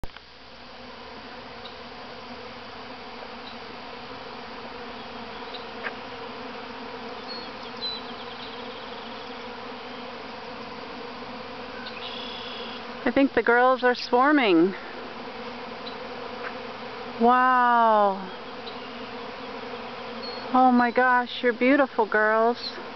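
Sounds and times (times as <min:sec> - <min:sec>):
bee swarm droning: 0:00.1 - 0:22.9.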